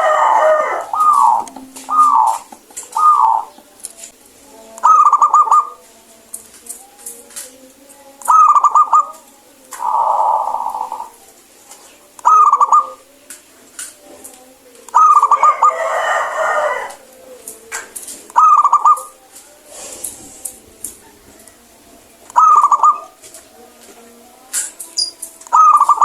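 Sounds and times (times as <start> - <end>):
dove cooing: 0.0 - 6.0, 8.2 - 13.2, 14.9 - 19.9, 20.8 - 26.0.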